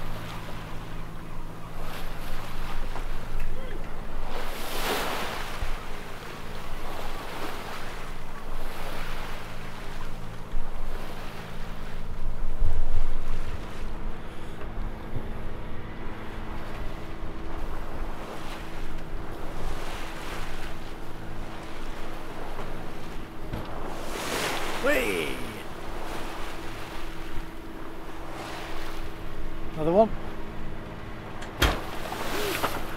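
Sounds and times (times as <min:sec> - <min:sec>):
water splashing along hull: 0:00.0 - 0:32.9.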